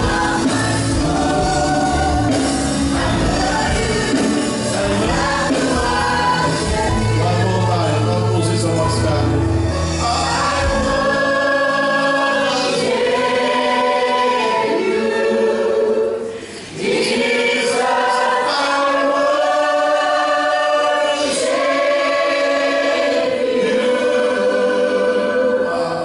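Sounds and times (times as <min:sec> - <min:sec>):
congregation singing slow song: 0:00.0 - 0:26.0.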